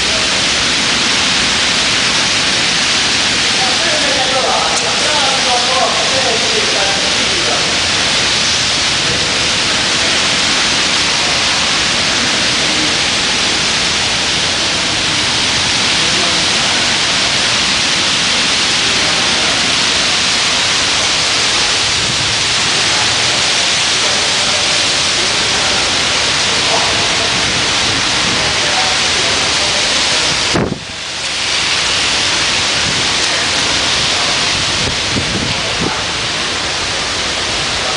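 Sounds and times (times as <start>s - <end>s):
rain: 0.0s - 37.9s
wind: 0.0s - 37.9s.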